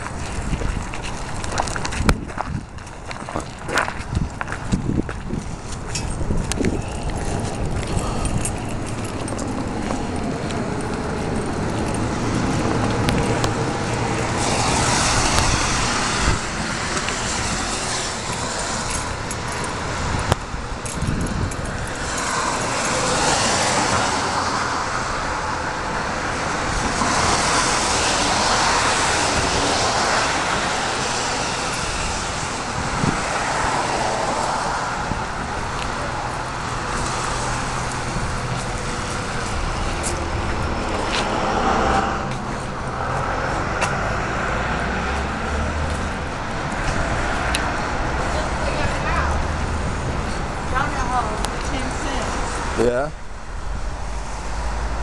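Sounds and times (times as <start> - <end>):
cars going by: 0.0 - 55.0.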